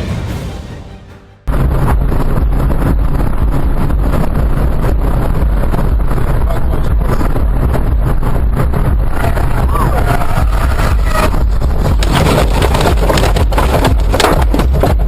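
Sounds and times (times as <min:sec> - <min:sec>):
moving vehicle noise: 0:00.0 - 0:15.0.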